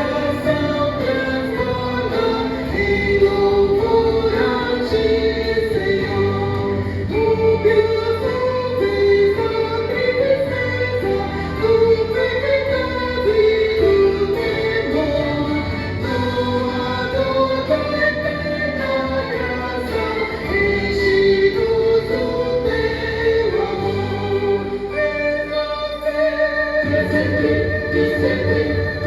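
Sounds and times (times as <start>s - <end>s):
musical accompaniment: 0.0s - 29.0s
vocal ensemble singing a hymn: 0.0s - 29.0s.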